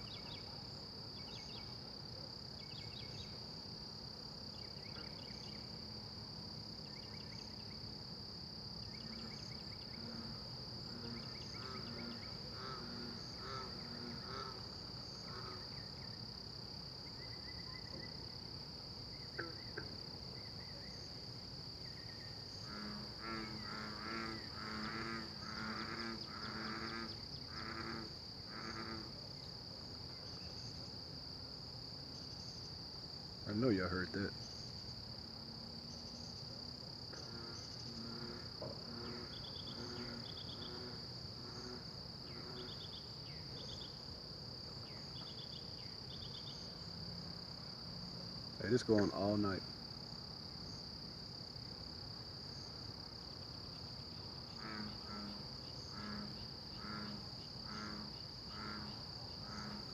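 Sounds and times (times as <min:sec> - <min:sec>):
night insects chirping: 0:00.0 - 0:59.9.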